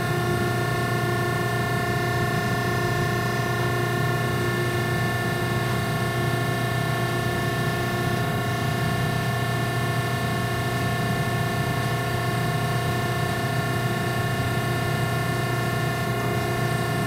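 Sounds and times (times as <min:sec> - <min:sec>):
grinder machine humming and whining: 0:00.0 - 0:17.0.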